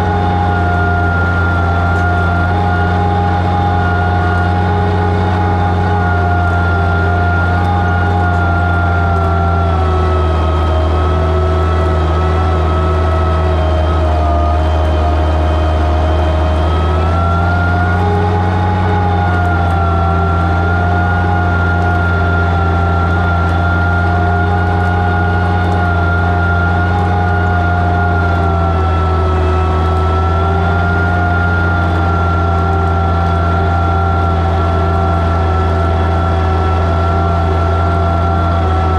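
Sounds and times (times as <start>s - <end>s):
tractor engine running under load: 0.0s - 38.9s.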